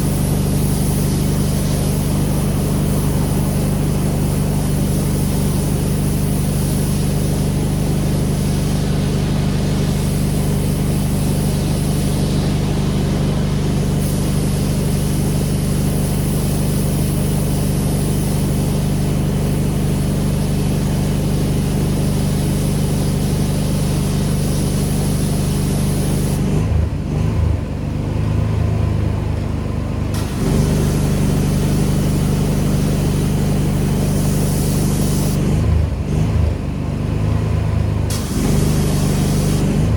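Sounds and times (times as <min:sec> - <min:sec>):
water spray hissing: 0:00.0 - 0:26.6, 0:30.2 - 0:35.6, 0:38.1 - 0:39.9
pressure washer engine running: 0:00.0 - 0:39.9.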